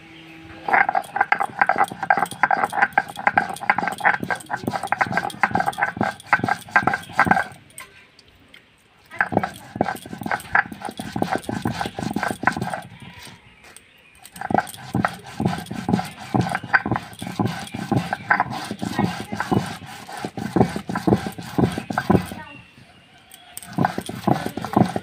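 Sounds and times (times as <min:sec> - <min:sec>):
stone grinding on stone slab: 0:00.6 - 0:07.7, 0:09.1 - 0:22.5, 0:23.6 - 0:25.0.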